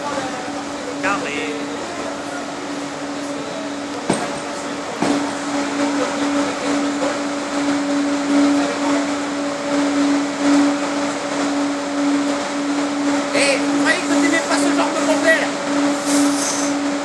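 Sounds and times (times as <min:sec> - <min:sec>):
electric train whine: 0:00.0 - 0:17.0
train running noise: 0:00.0 - 0:17.0.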